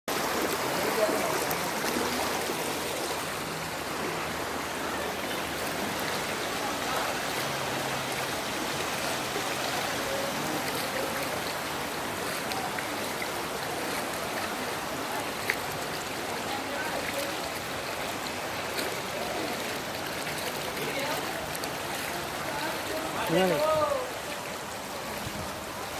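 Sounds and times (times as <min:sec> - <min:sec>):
floodwater flowing: 0:00.1 - 0:25.9.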